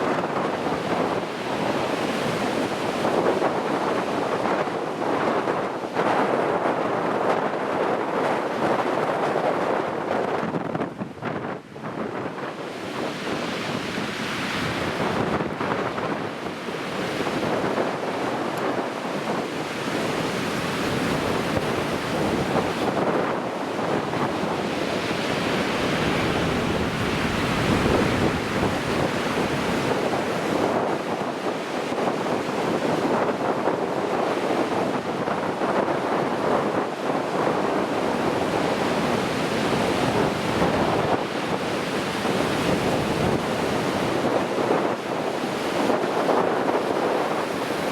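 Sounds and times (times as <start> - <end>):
waves breaking: 0.0 - 47.9
wind buffeting the microphone: 0.0 - 47.9.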